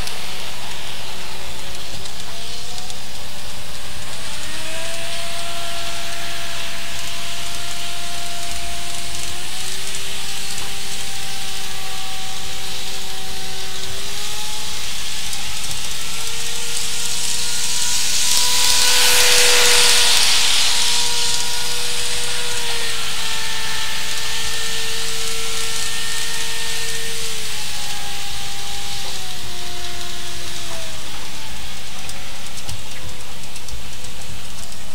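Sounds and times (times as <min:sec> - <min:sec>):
high-pitched motor tones: 0:00.0 - 0:34.9
wheels hissing on rail: 0:00.0 - 0:34.9.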